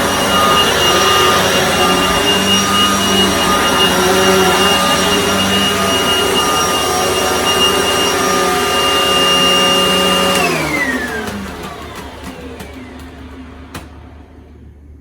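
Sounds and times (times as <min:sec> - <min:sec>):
vacuum cleaner motor whine: 0:00.0 - 0:15.0
vacuum motor winding down: 0:00.0 - 0:15.0.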